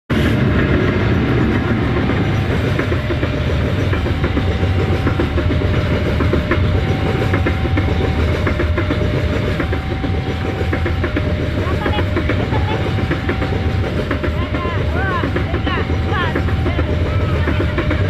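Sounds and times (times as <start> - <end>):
train cars rumbling past: 0.1 - 18.0
wheels clacking over rail joints: 0.3 - 18.0.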